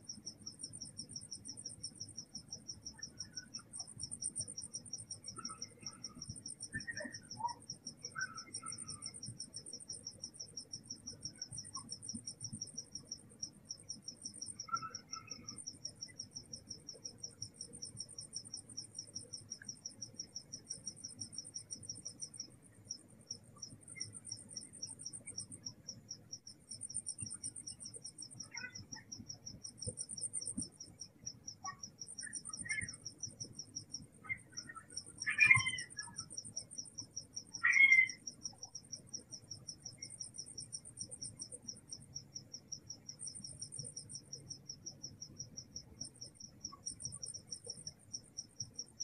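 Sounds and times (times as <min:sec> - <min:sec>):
cricket chirping rapidly: 0:00.0 - 0:49.0
high-pitched cricket trill: 0:00.0 - 0:49.0.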